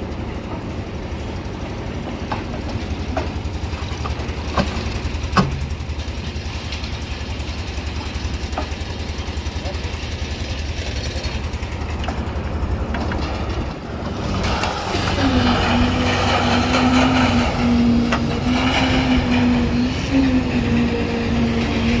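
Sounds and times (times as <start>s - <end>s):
engine throbbing: 0.0s - 22.0s.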